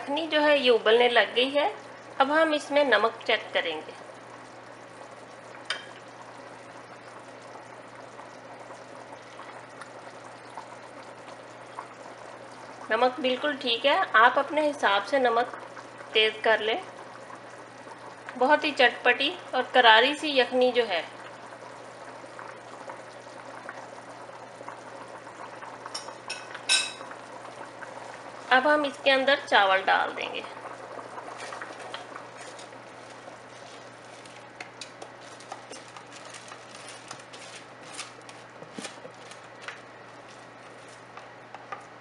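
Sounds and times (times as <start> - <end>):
stock boiling in a pan: 0.0 - 42.0.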